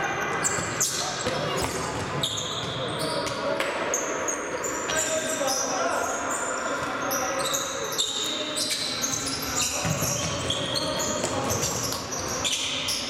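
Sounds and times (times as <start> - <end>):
shoe squeaks on hall floor: 0.0 - 13.0.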